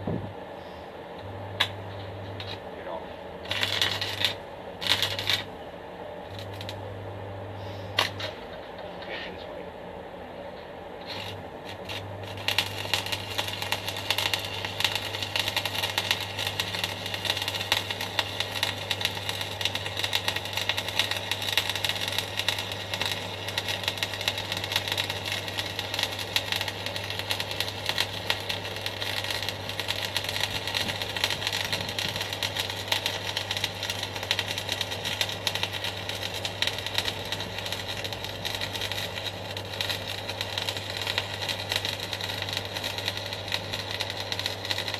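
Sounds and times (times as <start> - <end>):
welding machine hum: 0.0 - 9.0, 10.2 - 44.9
welding arc crackling: 1.6 - 2.7, 3.4 - 5.6, 6.2 - 6.9, 7.7 - 8.5, 11.0 - 44.9.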